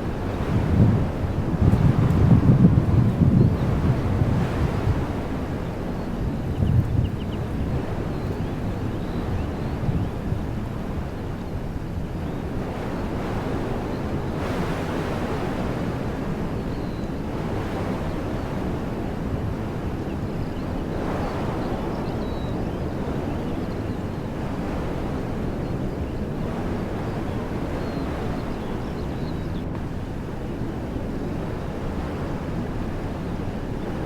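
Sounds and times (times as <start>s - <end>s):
wind blowing through trees: 0.0s - 34.0s.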